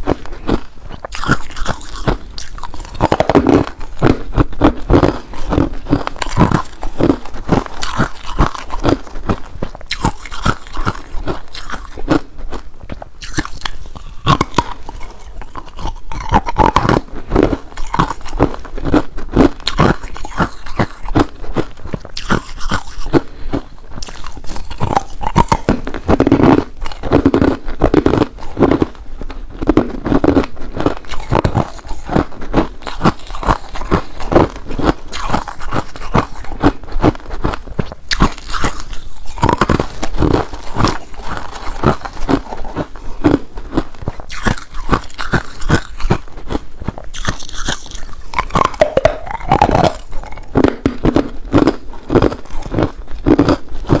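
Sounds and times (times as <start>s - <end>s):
ice cubes being chewed: 0.0s - 54.0s.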